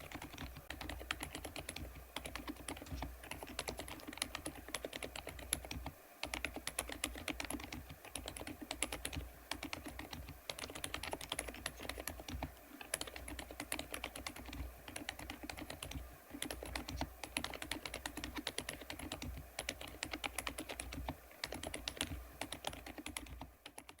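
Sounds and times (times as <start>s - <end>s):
fast keyboard typing: 0.0s - 24.0s.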